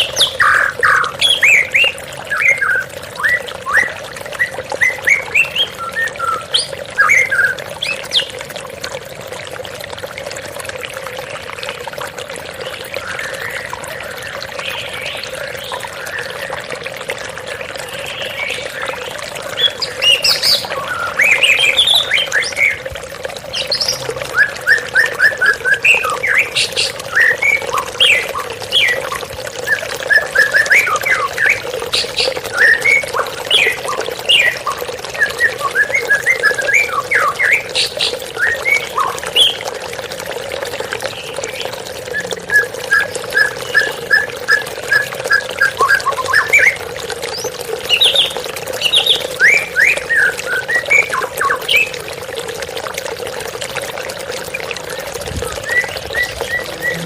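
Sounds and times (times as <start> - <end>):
songbirds singing: 0.0 - 8.5, 12.5 - 39.7, 41.0 - 52.0, 54.5 - 57.0.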